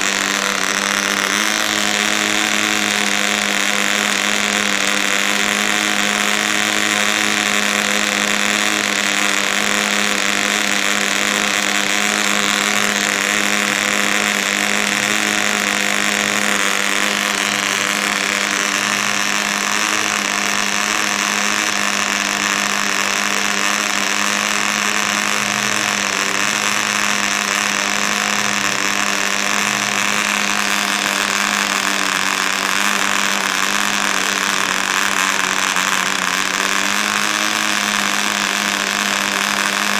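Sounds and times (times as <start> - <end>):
model engine high-pitched buzz: 0.0 - 39.9.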